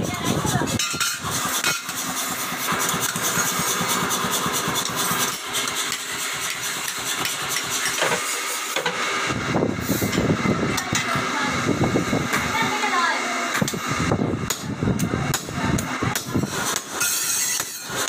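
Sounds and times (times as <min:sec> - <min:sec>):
forge blower running: 0:00.0 - 0:18.0.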